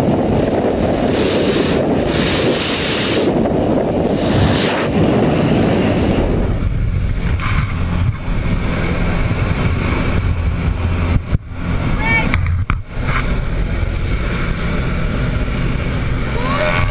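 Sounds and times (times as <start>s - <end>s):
light aircraft engine drone: 0.0s - 16.9s
wind buffeting microphone: 0.0s - 16.9s.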